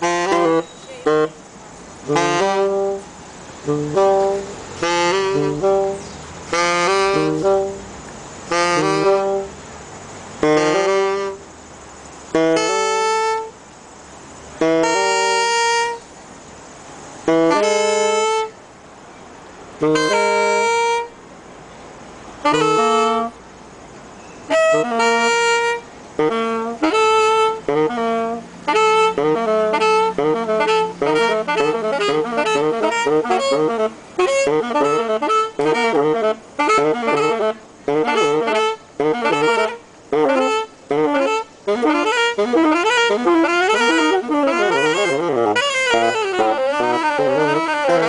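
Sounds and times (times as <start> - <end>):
saxophone duet: 0.0 - 11.6, 12.2 - 13.7, 14.6 - 16.1, 17.2 - 18.6, 19.8 - 21.2, 22.4 - 23.5, 24.4 - 48.0.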